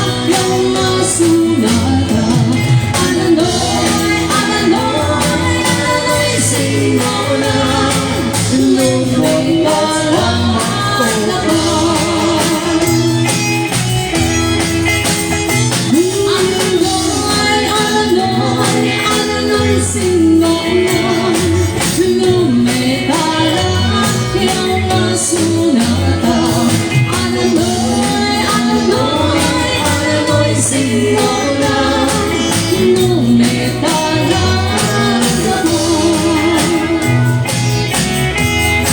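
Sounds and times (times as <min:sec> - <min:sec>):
band music with singer: 0:00.0 - 0:38.9.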